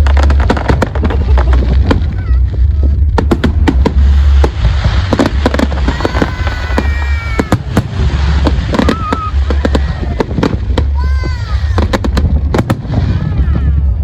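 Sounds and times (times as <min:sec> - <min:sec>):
fireworks bangs and crackles: 0:00.0 - 0:14.0
wind rumble on microphone: 0:00.0 - 0:14.0.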